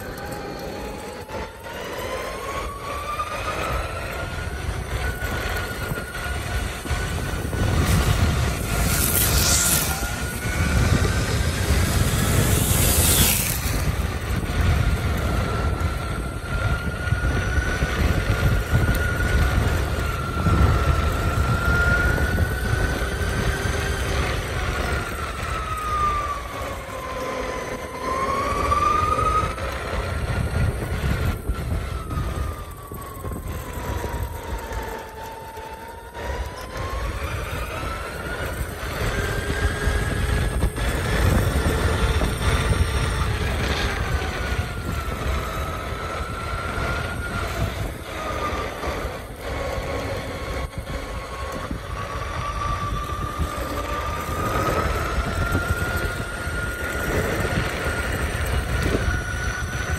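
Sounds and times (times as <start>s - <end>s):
electric motor whining: 0.0s - 59.9s
wheel rumble: 0.0s - 59.9s
wind: 0.0s - 59.9s.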